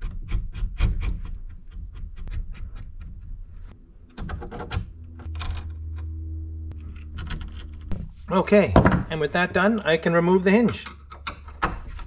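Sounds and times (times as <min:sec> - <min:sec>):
low steady hum: 0:02.2 - 0:12.0.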